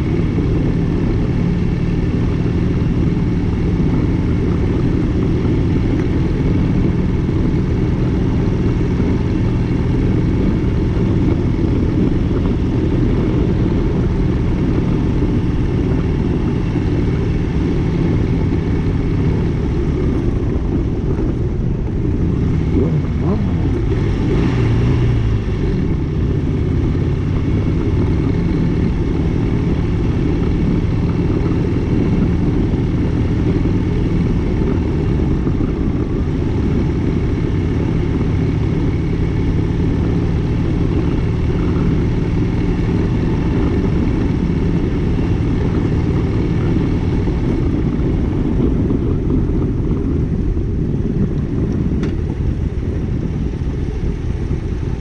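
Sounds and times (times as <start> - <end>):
motorcycle engine rumble: 0.0 - 55.0.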